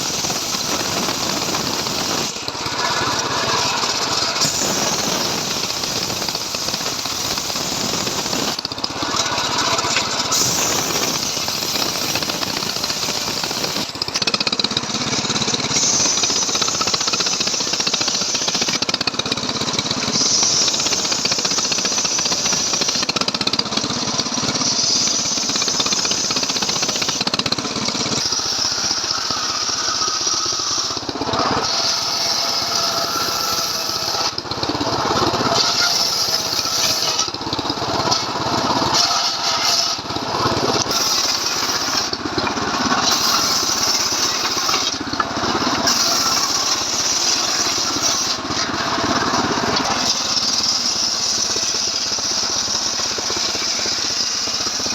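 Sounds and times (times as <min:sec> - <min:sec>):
chainsaw cutting a log: 0:00.0 - 0:54.9.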